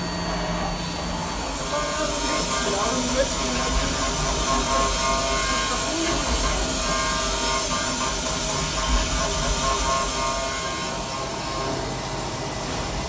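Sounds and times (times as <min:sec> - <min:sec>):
machine spindle whine: 0:00.0 - 0:13.0
engraving tool cutting metal: 0:01.4 - 0:11.9.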